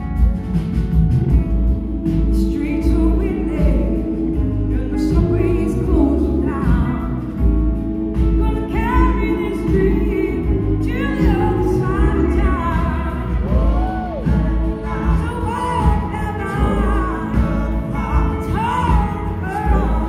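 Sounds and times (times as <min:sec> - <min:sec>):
live rock band playing slow song: 0:00.0 - 0:20.0.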